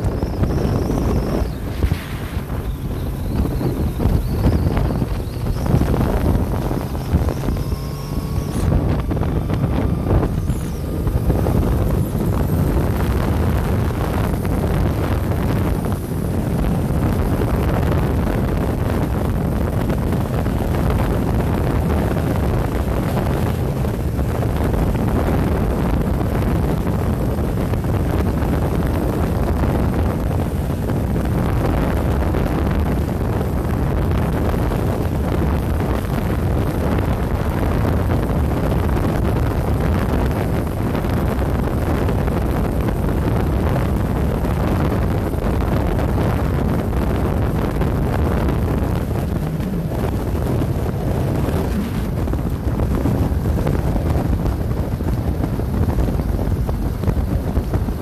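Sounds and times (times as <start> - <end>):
motorcycle running: 0.0 - 58.0
road noise: 0.0 - 58.0
wind rumble on microphone: 0.0 - 58.0.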